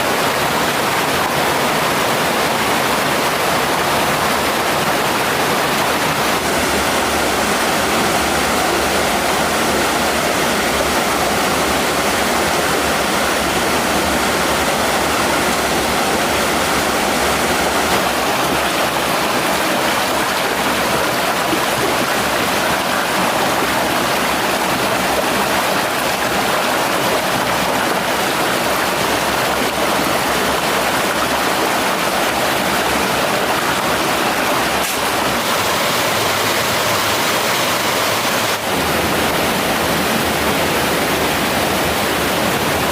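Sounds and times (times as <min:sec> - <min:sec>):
mountain stream rushing: 0:00.0 - 0:42.9.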